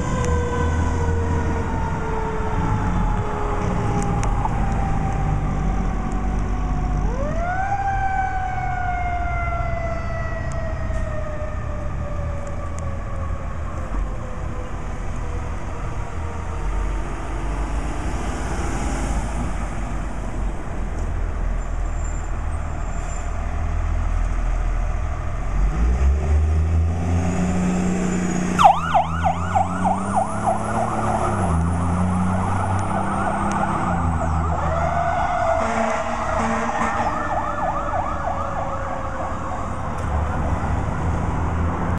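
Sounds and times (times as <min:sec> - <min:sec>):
fire truck siren: 0:00.0 - 0:20.7, 0:24.5 - 0:41.9
fire truck engine rumble: 0:00.0 - 0:41.9.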